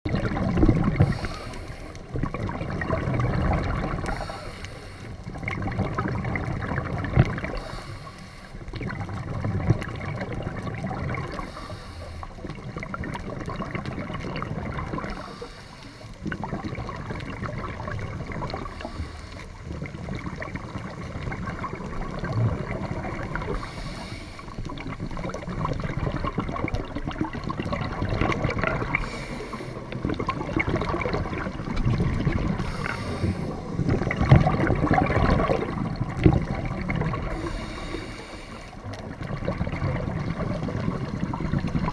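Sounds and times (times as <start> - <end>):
sea water sloshing: 0.1 - 41.9.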